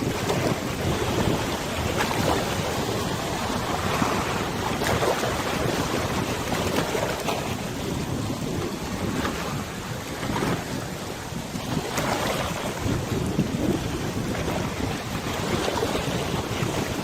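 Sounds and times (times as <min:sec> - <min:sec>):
river water splashing: 0:00.0 - 0:17.0
wind buffeting microphone: 0:00.0 - 0:17.0.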